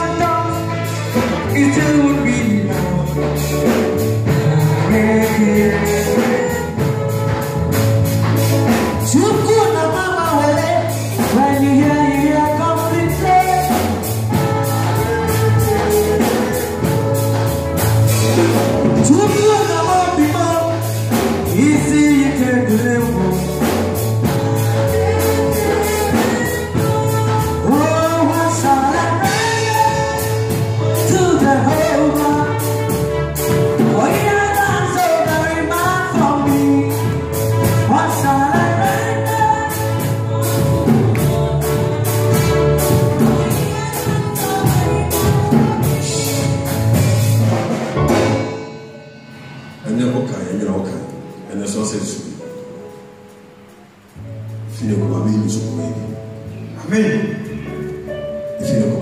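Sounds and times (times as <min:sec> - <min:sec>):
gospel music with singing: 0:00.0 - 0:59.0.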